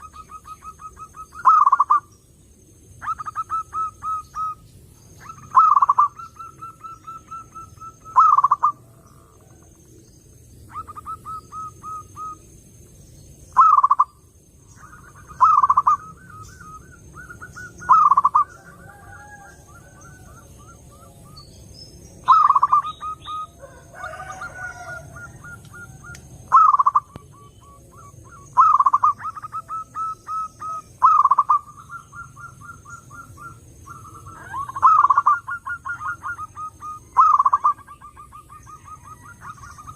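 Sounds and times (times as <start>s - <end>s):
doves cooing: 0.0s - 2.1s, 2.9s - 12.7s, 13.5s - 39.9s.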